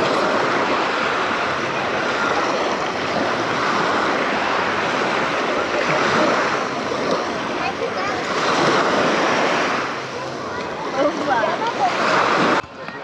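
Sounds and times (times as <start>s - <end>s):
sea waves washing onto beach: 0.0s - 13.0s.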